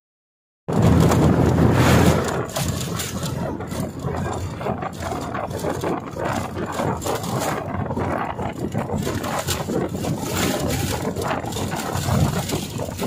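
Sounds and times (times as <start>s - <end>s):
bus body rattling: 0.7s - 13.0s
bus engine drone: 0.7s - 13.0s
road and wind noise: 0.7s - 13.0s.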